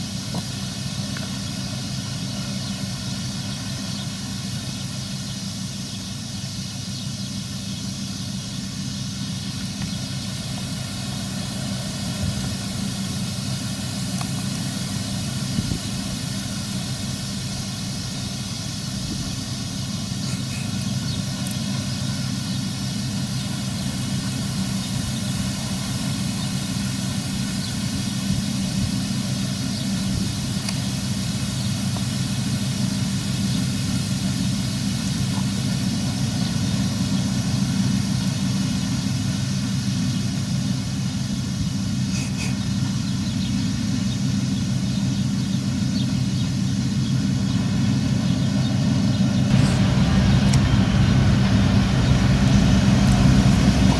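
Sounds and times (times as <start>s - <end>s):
combine harvester engine and threshing: 0.0s - 53.9s.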